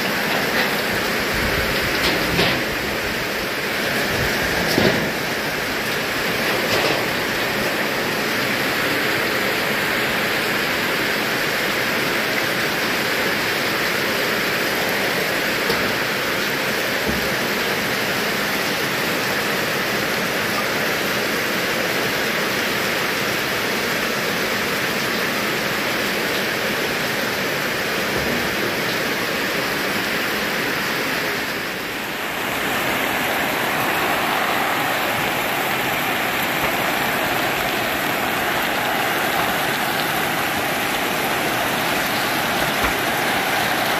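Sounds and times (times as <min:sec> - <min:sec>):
heavy rain on hard surface: 0:00.0 - 0:43.9.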